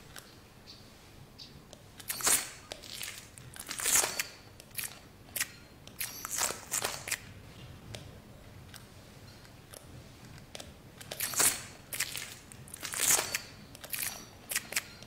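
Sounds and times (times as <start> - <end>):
irregular crunching and crackling: 1.7 - 15.0.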